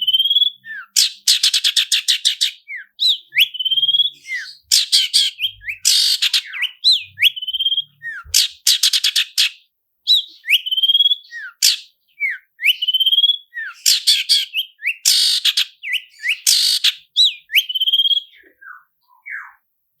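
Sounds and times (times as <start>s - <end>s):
harsh rattling bird trill: 0.0s - 18.3s.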